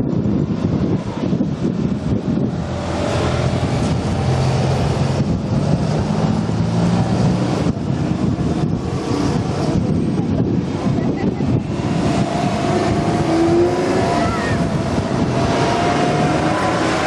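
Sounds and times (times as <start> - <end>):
cars driving past slowly: 1.0 - 17.0.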